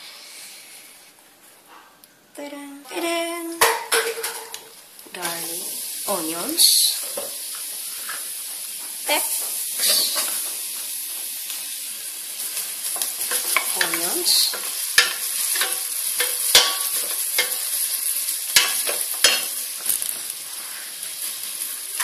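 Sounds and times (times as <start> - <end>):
garlic and onions sizzling in oil: 3.1 - 22.0.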